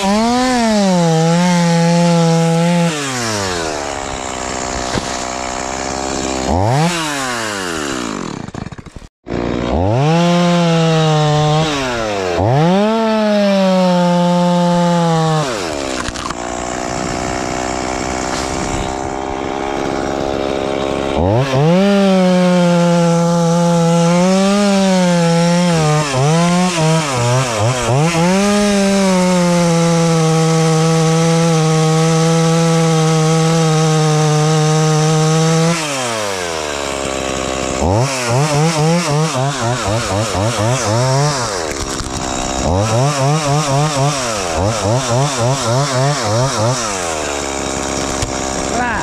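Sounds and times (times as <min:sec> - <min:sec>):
chainsaw revving and cutting wood: 0:00.0 - 0:49.0.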